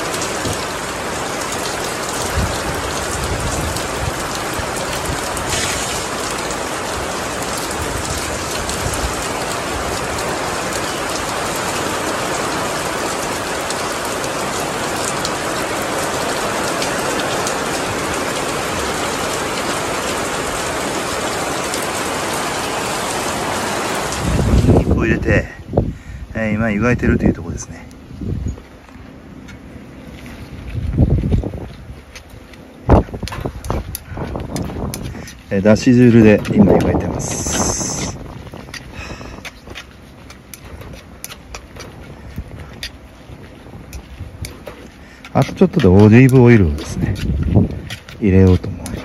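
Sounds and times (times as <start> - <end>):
heavy rain pouring: 0.0 - 49.0.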